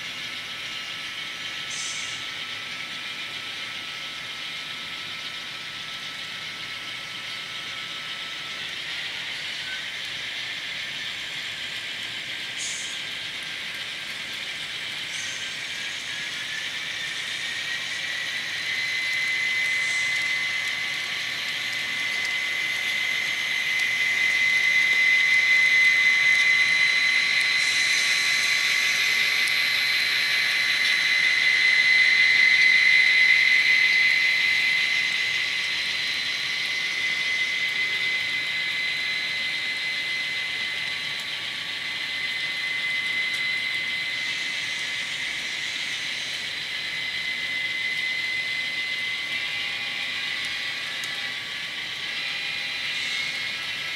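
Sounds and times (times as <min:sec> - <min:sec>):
high even whine: 0:00.0 - 0:53.9
model train wheels whirring: 0:00.0 - 0:53.9.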